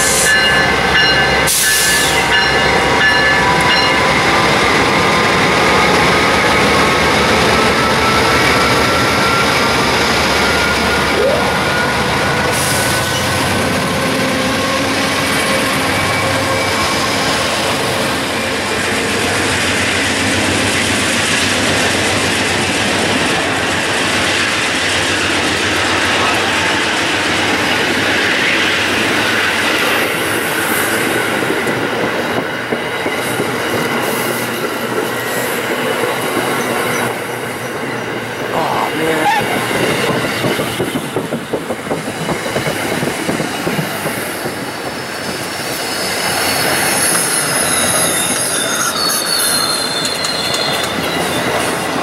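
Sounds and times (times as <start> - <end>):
passenger train rolling past: 0.0 - 52.0.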